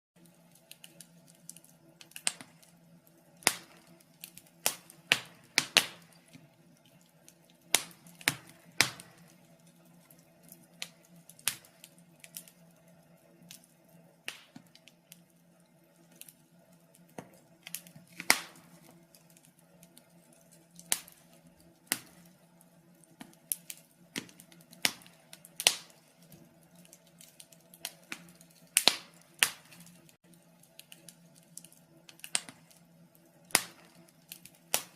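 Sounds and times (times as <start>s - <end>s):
wood fire crackling and popping: 0.2s - 34.9s.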